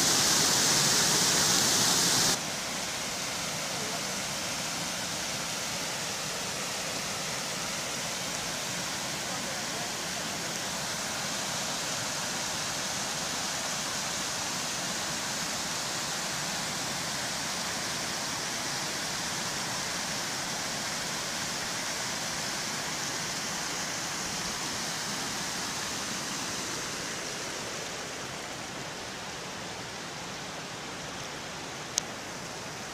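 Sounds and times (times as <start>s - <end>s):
water rushing over rock ledges: 0.0s - 32.9s.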